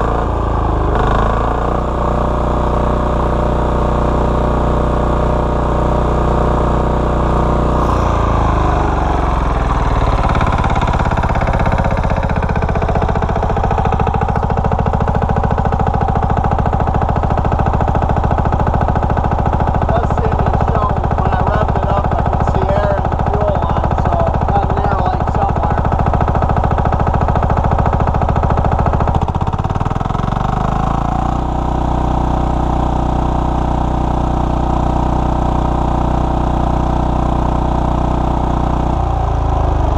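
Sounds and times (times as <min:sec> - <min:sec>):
generator diesel engine running: 0:00.0 - 0:39.9.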